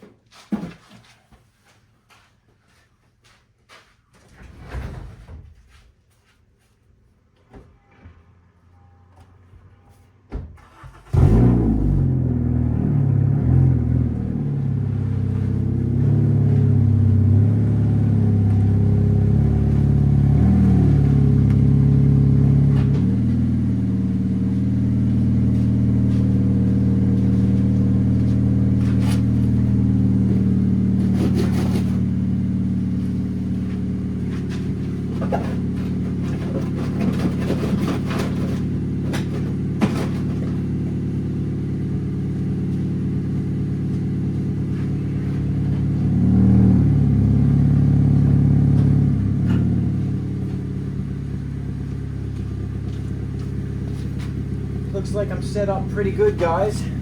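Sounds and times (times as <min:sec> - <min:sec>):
car engine with exhaust leak: 0:10.6 - 0:57.0.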